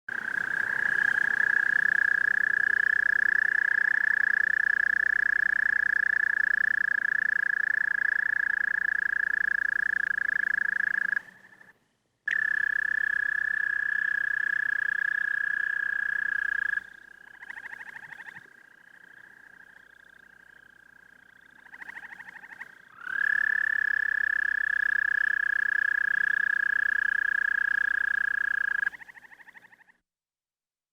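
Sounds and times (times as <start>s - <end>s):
toads trilling: 0.1s - 11.6s, 12.3s - 29.9s.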